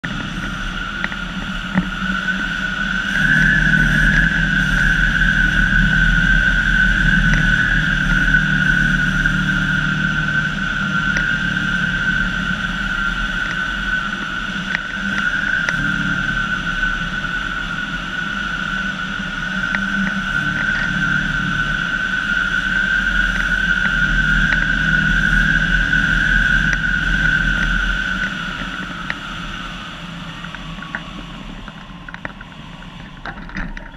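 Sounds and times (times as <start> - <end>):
high-pitched whine: 0.0 - 33.9
low rumble: 0.0 - 33.9.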